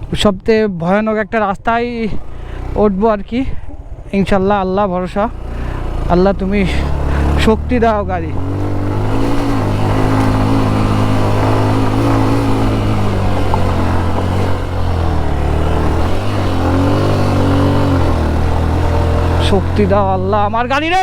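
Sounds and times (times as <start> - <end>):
motorcycle engine climbing hill: 0.0 - 21.0.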